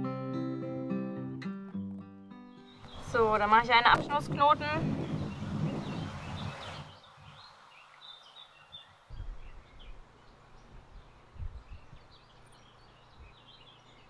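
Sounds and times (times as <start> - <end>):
birds chirping faintly: 2.5 - 14.0.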